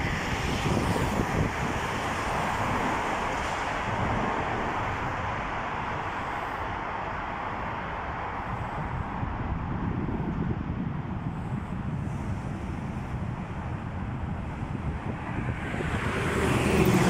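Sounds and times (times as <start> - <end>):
road tunnel roar: 0.0 - 17.0.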